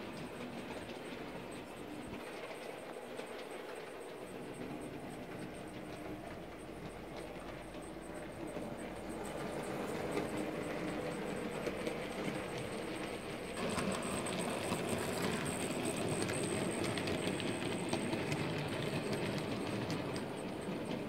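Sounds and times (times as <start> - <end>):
faint high whine: 0.0 - 21.0
model train wheels rumbling: 0.0 - 21.0.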